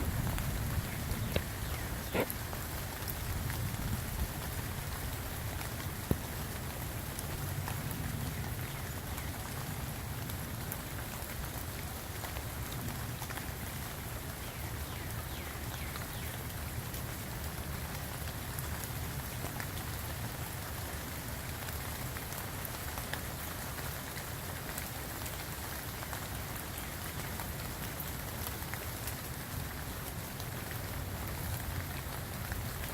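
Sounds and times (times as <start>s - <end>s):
rain drops hitting: 0.0s - 32.9s.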